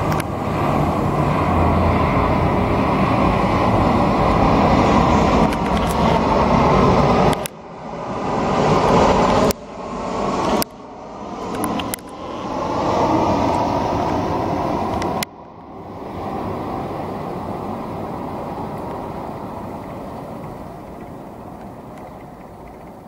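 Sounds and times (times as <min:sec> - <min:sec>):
airliner engine roar: 0:00.0 - 0:23.0.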